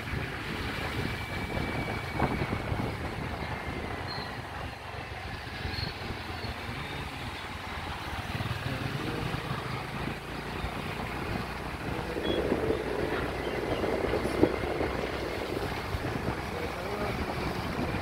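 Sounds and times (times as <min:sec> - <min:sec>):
wind on microphone: 0:00.0 - 0:07.1, 0:10.2 - 0:18.0
motorbike engine running: 0:00.1 - 0:18.0.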